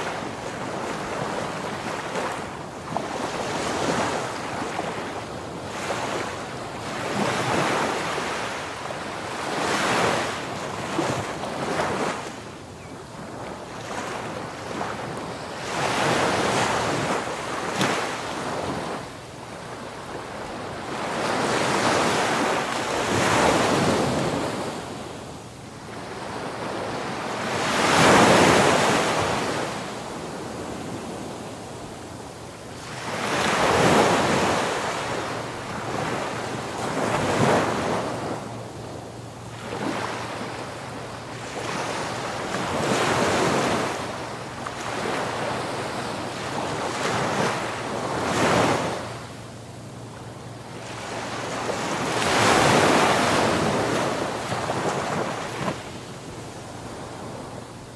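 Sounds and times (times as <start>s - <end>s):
waves washing ashore: 0.0s - 57.9s.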